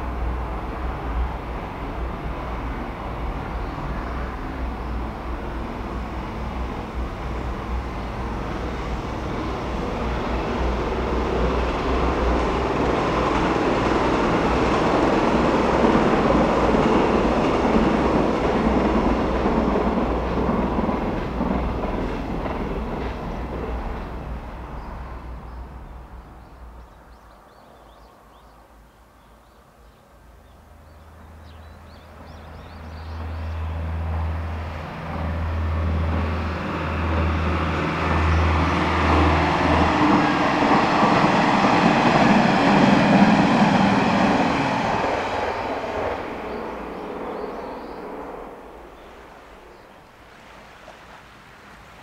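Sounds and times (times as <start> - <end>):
train passing: 0.0 - 28.9, 30.1 - 52.0.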